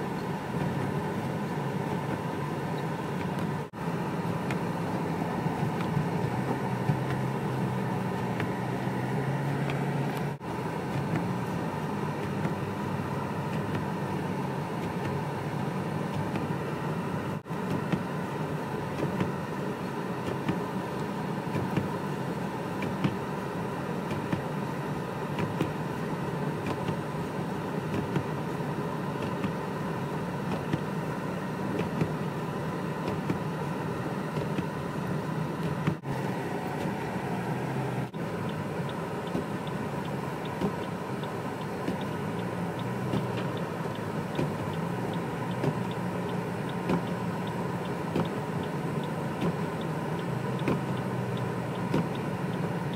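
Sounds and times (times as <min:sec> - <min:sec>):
car engine and tyre drone: 0:00.0 - 0:52.9.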